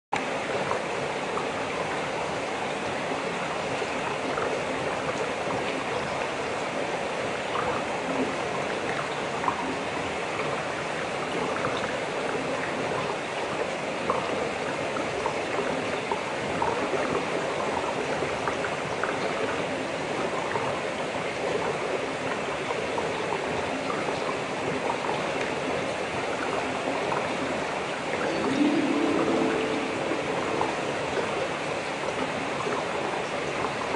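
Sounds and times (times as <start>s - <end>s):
rushing pool water: 0.2s - 33.9s.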